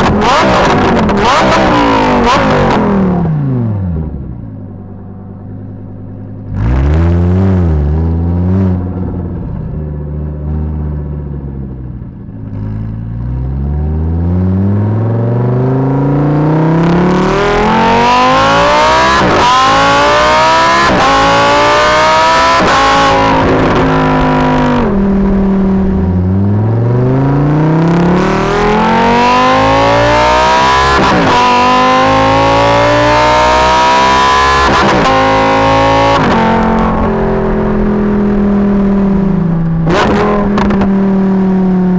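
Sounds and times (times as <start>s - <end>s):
sports car engine revving: 0.0s - 41.9s.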